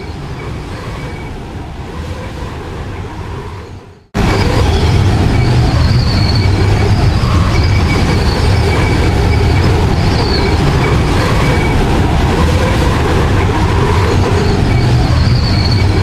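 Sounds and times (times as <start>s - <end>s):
high wind whistle: 0.0s - 16.0s
strong wind rumbling: 0.0s - 16.0s.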